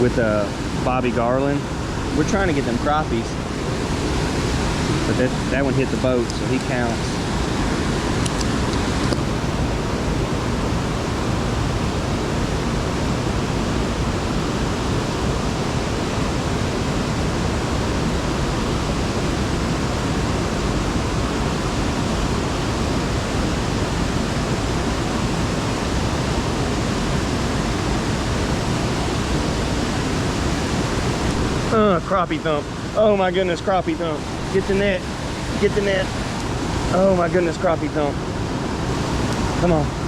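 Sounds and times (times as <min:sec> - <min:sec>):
flowing water rushing: 0:00.0 - 0:40.0.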